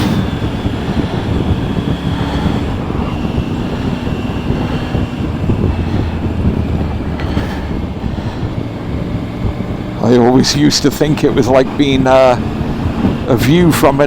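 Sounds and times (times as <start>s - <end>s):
motorcycle engine climbing a hill: 0.0s - 14.0s
wind and road noise: 0.0s - 14.0s.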